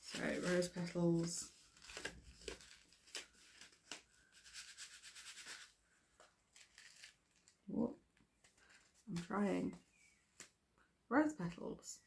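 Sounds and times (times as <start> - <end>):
paper rustling: 0.0 - 7.6, 8.3 - 10.5.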